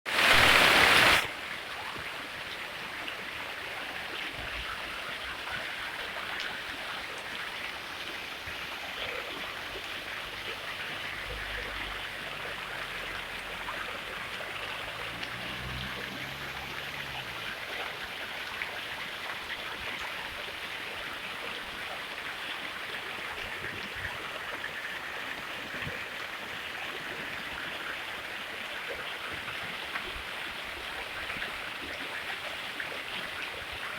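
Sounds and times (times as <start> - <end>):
fountain water splashing: 0.1 - 33.9.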